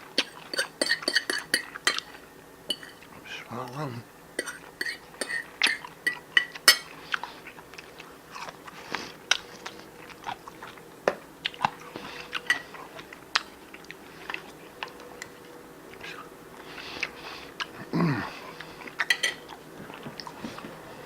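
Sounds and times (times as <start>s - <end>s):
person chewing crunchy food: 0.0s - 3.2s, 4.4s - 21.0s.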